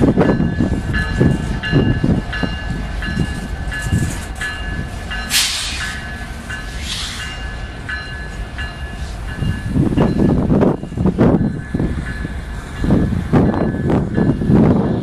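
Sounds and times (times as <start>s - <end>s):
freight train cars rolling: 0.0s - 15.0s.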